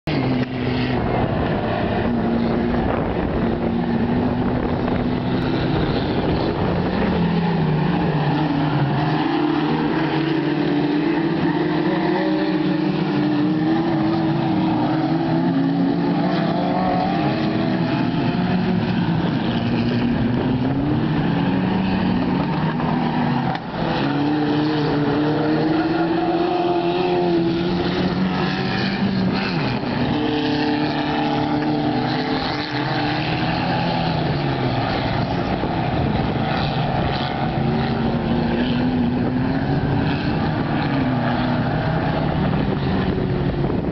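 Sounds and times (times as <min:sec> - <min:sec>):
race car engines running hard: 0:00.0 - 0:43.9.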